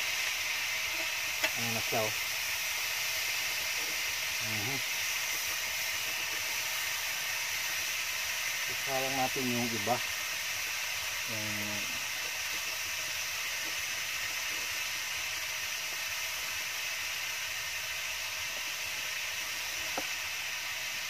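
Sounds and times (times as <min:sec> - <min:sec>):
chicken sizzling in grill pan: 0:00.0 - 0:21.0.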